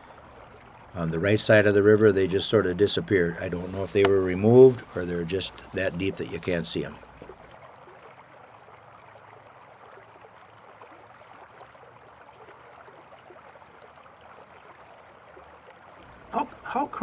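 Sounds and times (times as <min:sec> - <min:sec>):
faint steady rushing noise: 0:00.0 - 0:17.0.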